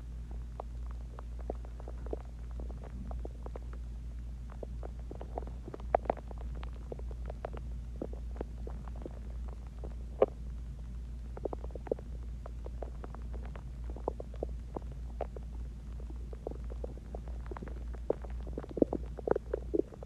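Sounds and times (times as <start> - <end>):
steady low hum: 0.0 - 20.0
stomach growling and gurgling: 0.0 - 20.0.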